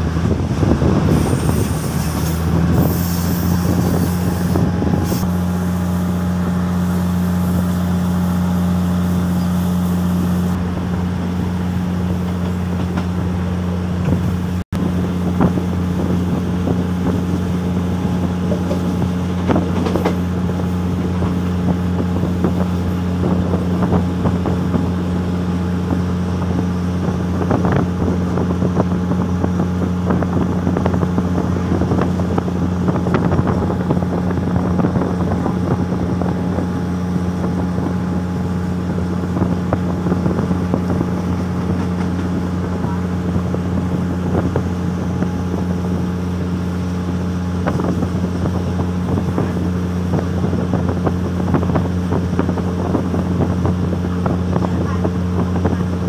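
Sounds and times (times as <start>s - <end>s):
rolling rail noise: 0.0s - 26.2s, 30.6s - 51.8s
diesel train engine drone: 0.0s - 56.0s.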